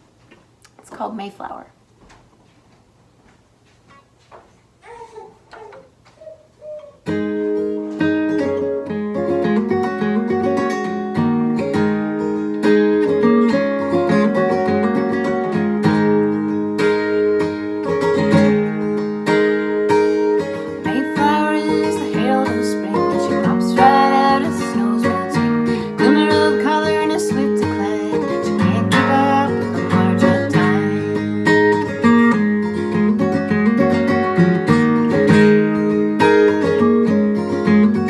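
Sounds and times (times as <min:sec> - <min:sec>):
acoustic guitar picking and strumming: 0:04.9 - 0:38.0.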